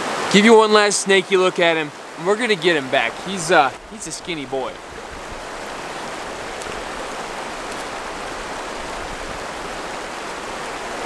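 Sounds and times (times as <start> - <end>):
river flowing over rocks: 0.0 - 11.0.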